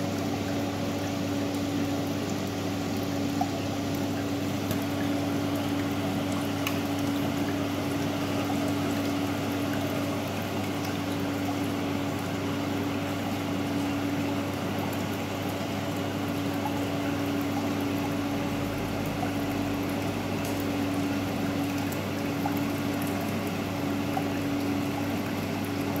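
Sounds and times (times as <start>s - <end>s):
moving water: 0.0s - 26.0s
water pump humming: 0.0s - 26.0s.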